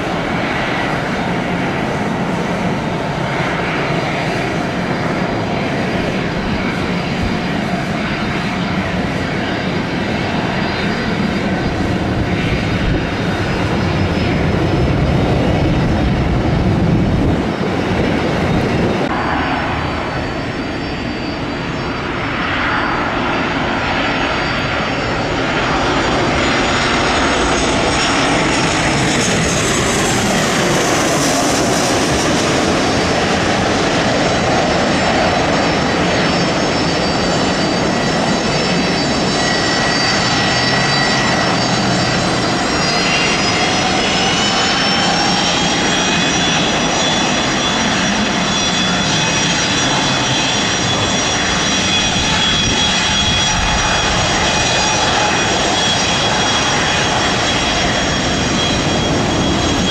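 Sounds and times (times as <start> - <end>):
jet engines rushing and whining: 0.0 - 59.9.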